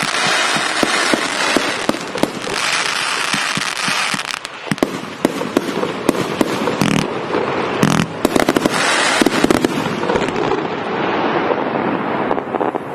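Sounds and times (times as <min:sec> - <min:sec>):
fireworks bursts and crackle: 0:00.0 - 0:12.9.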